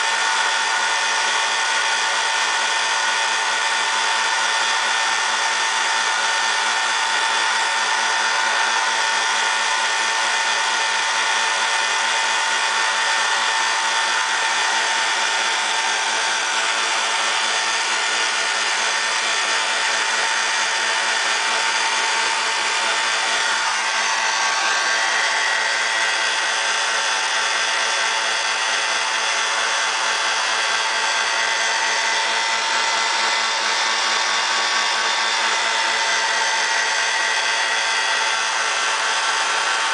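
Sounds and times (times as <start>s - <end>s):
belt sander motor whining: 0.0s - 39.9s.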